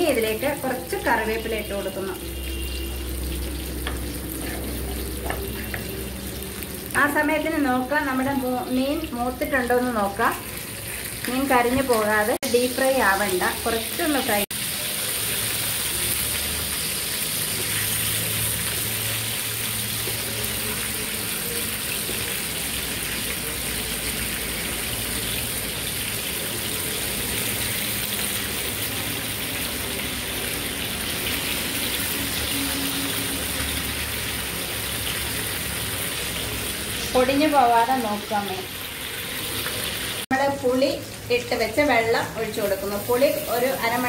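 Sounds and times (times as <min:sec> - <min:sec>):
fish frying in hot oil: 0:00.0 - 0:44.0.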